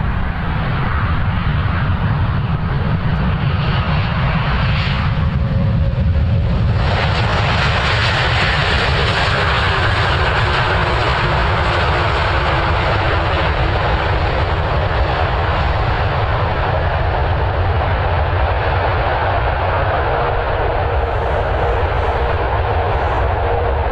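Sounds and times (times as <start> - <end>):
jet engines roaring: 0.0 - 23.9.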